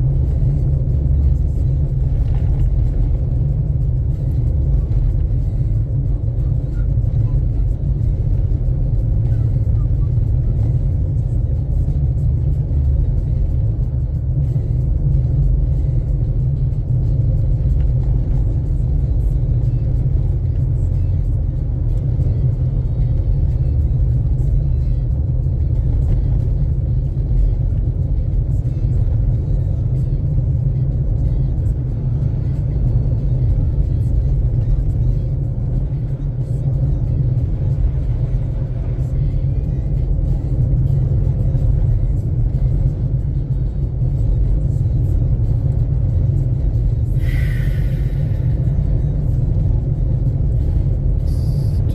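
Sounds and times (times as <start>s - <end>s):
car interior road rumble: 0.0s - 51.9s.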